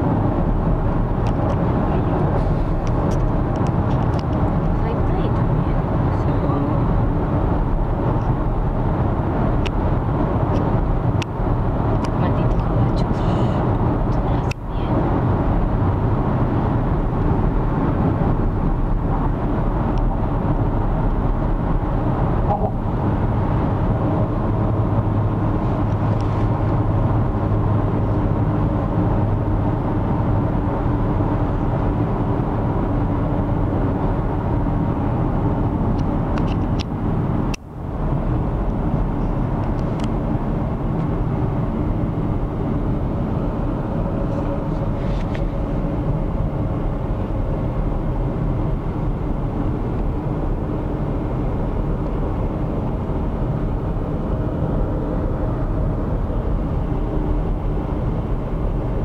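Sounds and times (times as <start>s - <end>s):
vehicle engine and tyre drone: 0.0s - 59.0s.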